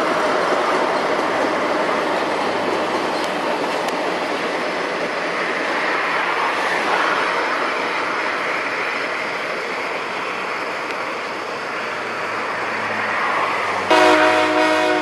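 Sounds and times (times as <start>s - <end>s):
train wheels rushing on track: 0.0s - 15.0s.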